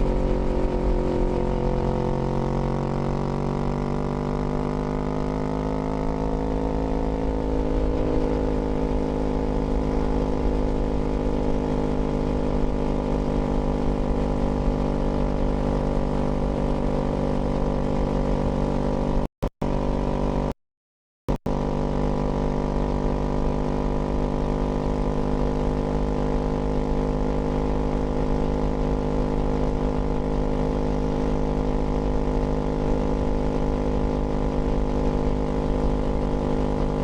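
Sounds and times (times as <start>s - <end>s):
motorcycle engine running: 0.0s - 20.6s, 21.3s - 37.0s.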